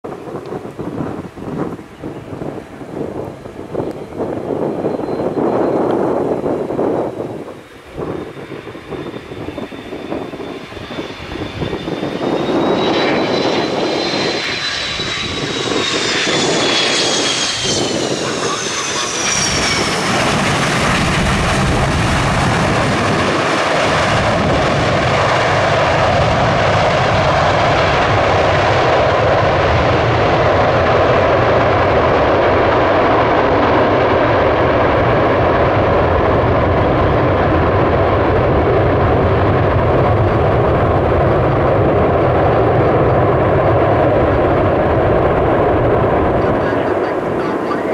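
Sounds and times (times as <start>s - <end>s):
jet engine roar: 0.0s - 47.9s
jet engine whine: 0.0s - 47.9s.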